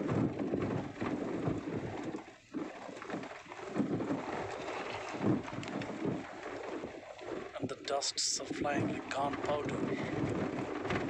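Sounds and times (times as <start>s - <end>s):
rumbling over rough ground: 0.0s - 11.0s
wind buffeting microphone: 0.0s - 11.0s.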